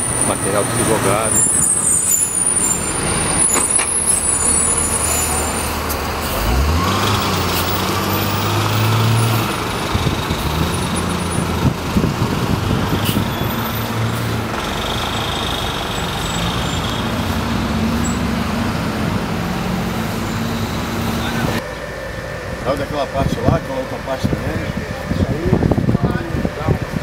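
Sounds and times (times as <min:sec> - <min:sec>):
steady road noise: 0:00.0 - 0:27.0
vehicle engine revving: 0:00.0 - 0:27.0.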